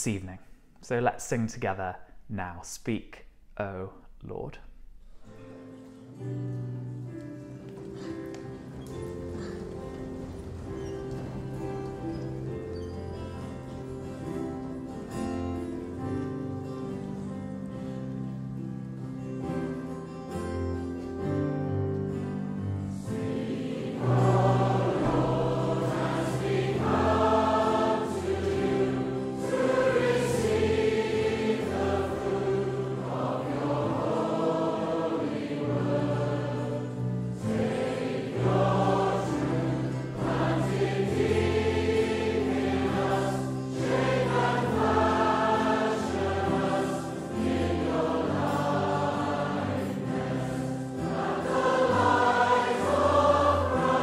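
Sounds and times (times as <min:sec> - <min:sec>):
congregation singing a hymn: 0:06.1 - 0:54.0.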